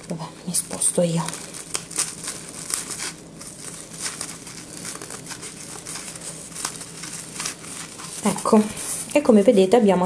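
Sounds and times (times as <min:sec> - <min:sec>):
metallic mesh crinkling: 0:00.7 - 0:08.8.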